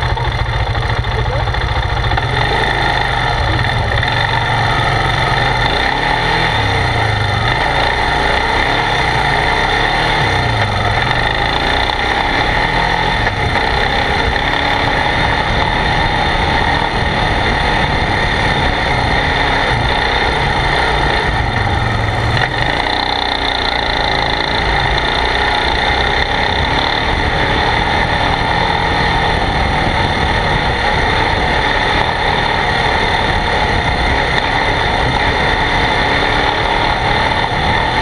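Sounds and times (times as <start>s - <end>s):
quad engine running: 0.0s - 38.0s.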